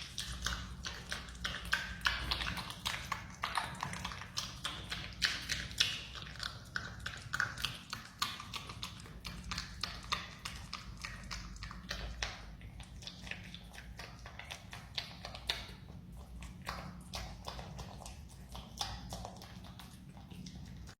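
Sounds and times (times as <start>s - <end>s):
marmot chewing wetly: 0.0s - 20.9s.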